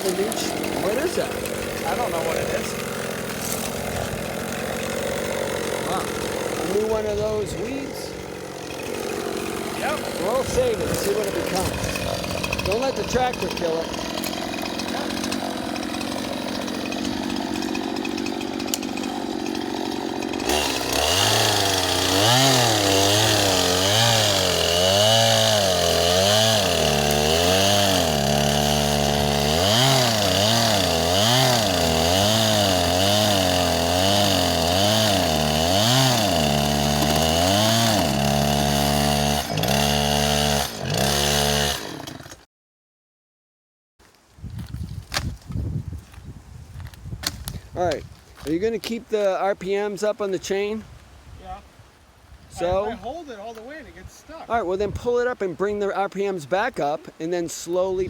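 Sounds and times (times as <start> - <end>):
chainsaw cutting wood: 0.0 - 42.5, 46.8 - 51.0.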